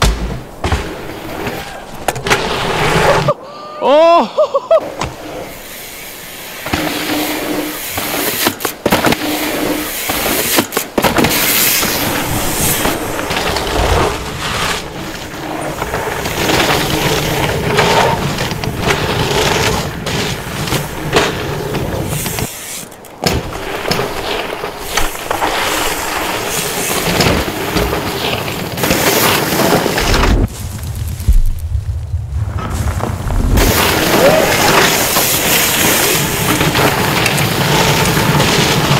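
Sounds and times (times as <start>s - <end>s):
bike tyres rolling on dirt: 0.0s - 3.4s, 4.8s - 38.9s
bike knocking and rattling: 6.6s - 31.9s, 32.6s - 38.9s.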